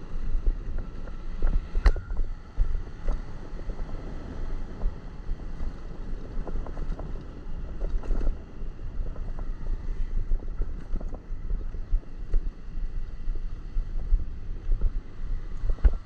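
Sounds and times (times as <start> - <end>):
motorcycle engine and road rumble: 0.0 - 16.0
wind buffeting microphone: 0.0 - 16.0.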